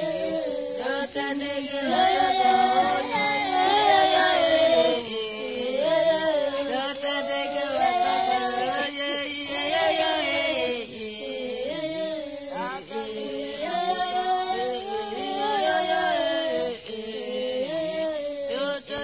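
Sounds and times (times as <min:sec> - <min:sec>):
polyphonic group singing: 0:00.0 - 0:19.0.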